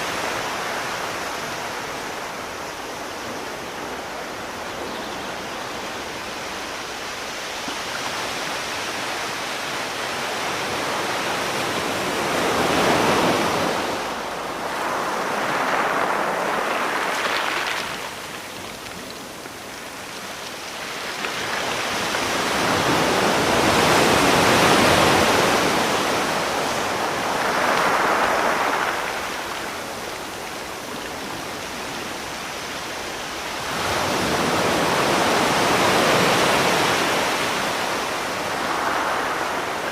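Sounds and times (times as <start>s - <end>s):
sea waves breaking: 6.0s - 39.9s.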